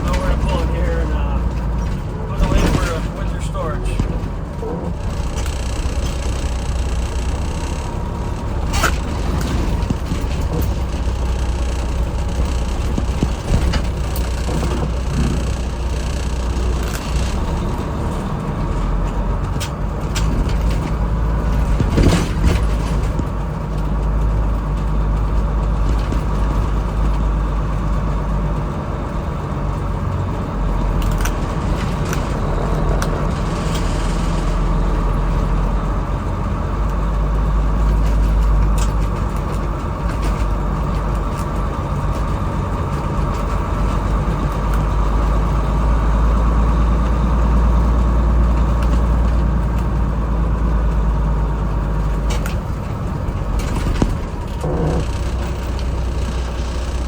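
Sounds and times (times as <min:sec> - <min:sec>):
truck diesel engine rumbling: 0:00.0 - 0:57.0.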